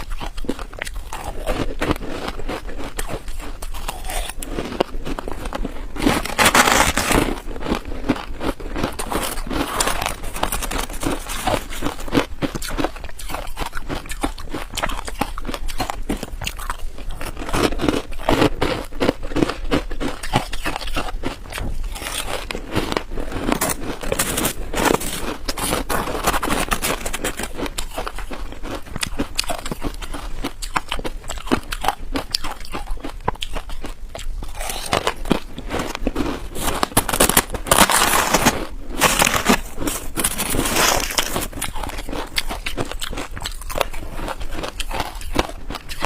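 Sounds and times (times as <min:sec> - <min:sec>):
ice crystals crunching: 0:00.0 - 0:30.7, 0:34.4 - 0:46.0.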